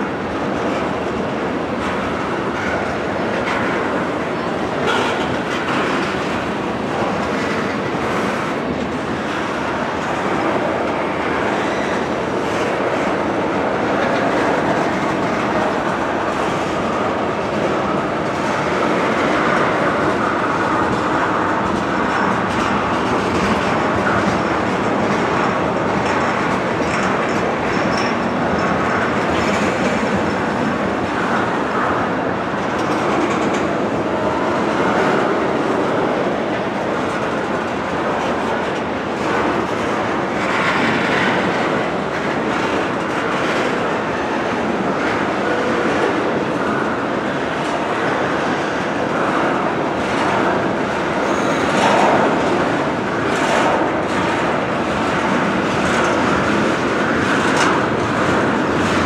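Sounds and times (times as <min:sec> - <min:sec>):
freight train wheels rumbling: 0:00.0 - 0:59.0
wheels clicking over rail joints: 0:00.3 - 0:59.0.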